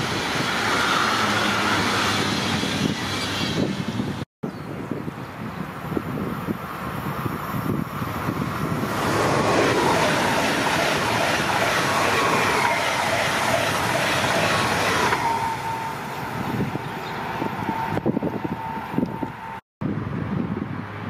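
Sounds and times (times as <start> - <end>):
train wheels rushing on rails: 0.0 - 4.2, 6.5 - 19.6
high whine of train: 0.0 - 21.0.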